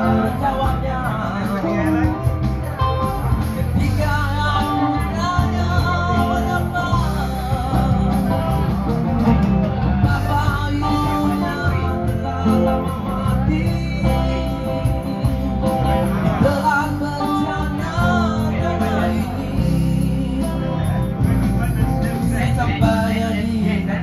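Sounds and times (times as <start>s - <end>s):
loud backing music: 0.0s - 24.0s
man singing into microphone: 0.0s - 24.0s.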